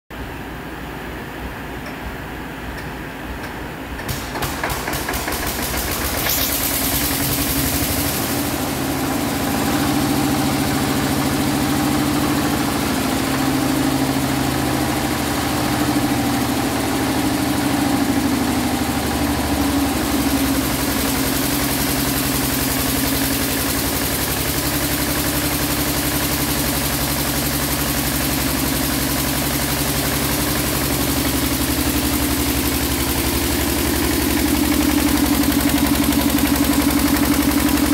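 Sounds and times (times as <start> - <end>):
diesel generator engine running: 3.1 - 37.9.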